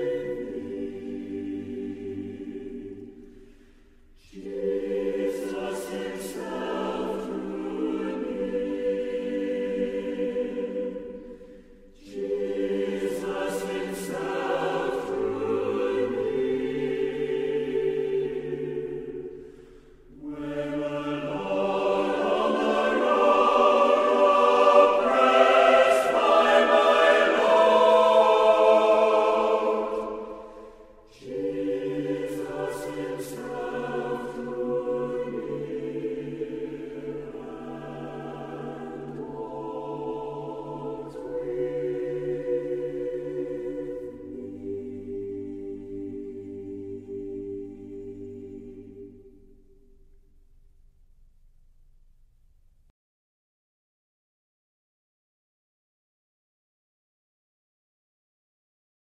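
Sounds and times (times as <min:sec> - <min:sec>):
choir singing sustained chords: 0:00.0 - 0:50.9.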